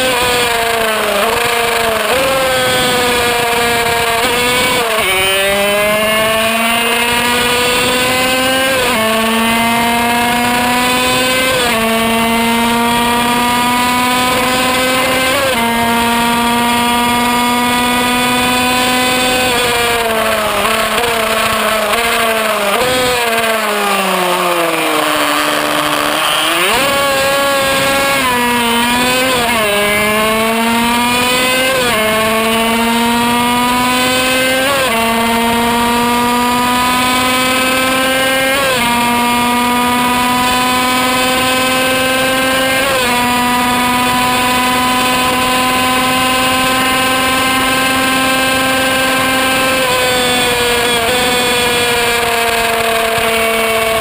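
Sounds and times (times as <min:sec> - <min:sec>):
two-stroke racing engine revving: 0:00.0 - 0:54.0.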